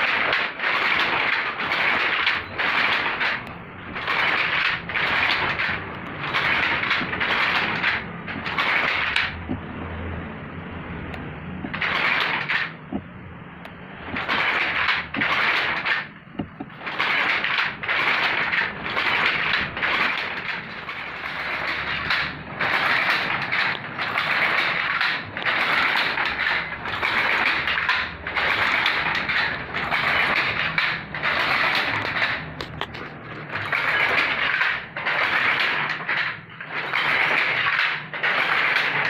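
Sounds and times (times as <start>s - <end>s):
wooden hand loom scraping strokes: 0.0s - 9.9s, 11.6s - 13.1s, 13.7s - 39.0s.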